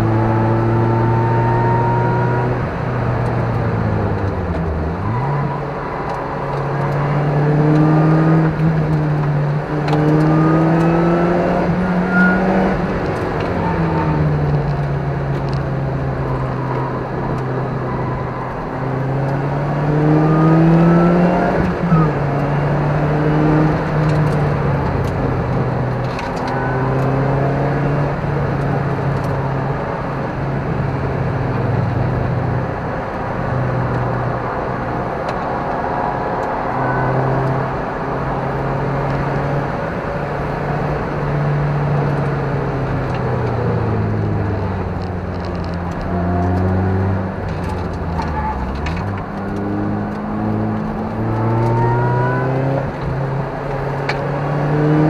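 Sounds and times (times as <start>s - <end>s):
sports car engine revving: 0.0s - 55.0s.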